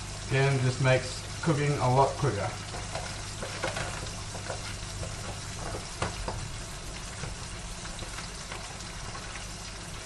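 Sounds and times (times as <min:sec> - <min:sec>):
bacon sizzling in a frying pan: 0:00.0 - 0:10.0.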